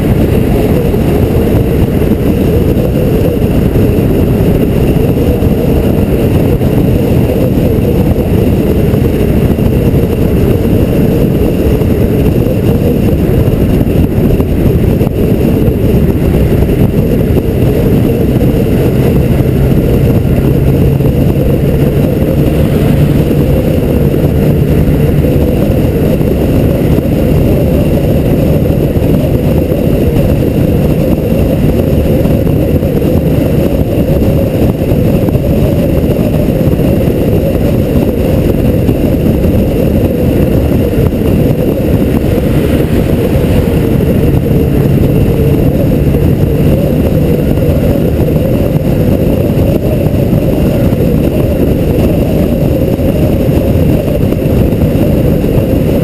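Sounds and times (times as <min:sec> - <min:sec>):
car engine drone: 0:00.0 - 0:56.0
wind and road noise: 0:00.0 - 0:56.0.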